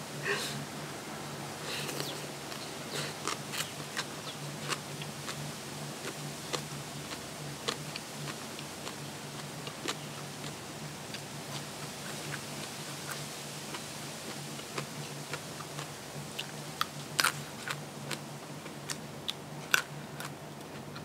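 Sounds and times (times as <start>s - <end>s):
faint low hum: 0.0s - 21.0s
person chewing food: 1.7s - 21.0s.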